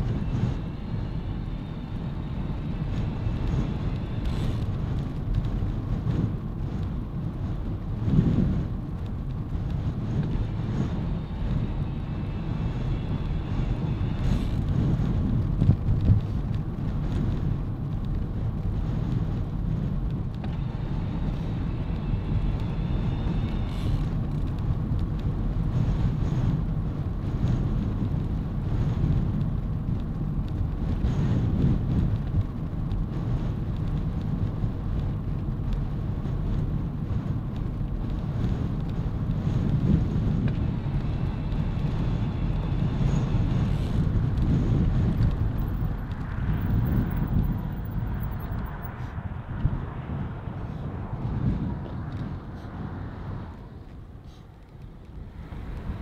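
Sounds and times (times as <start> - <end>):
tyres rolling on tarmac: 0.0 - 56.0
wind buffeting microphone: 0.0 - 56.0.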